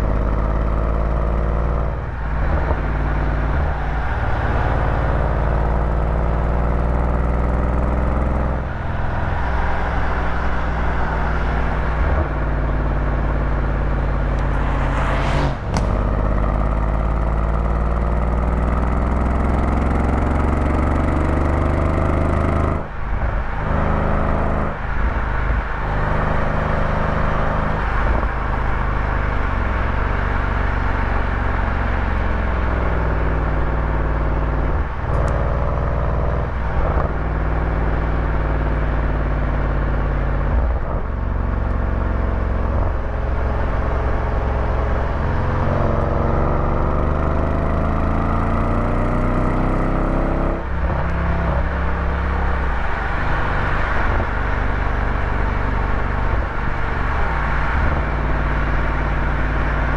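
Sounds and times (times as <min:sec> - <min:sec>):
road noise hiss: 0:00.0 - 0:47.0, 0:47.7 - 0:59.9
vehicle engine running: 0:00.0 - 0:59.9.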